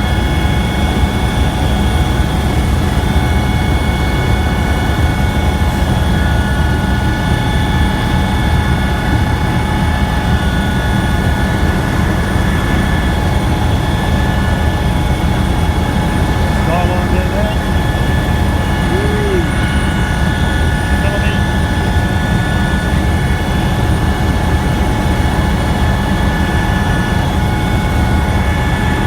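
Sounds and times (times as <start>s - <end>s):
helicopter rotor and engine drone: 0.0s - 29.0s
turbine high whining tones: 0.0s - 29.0s.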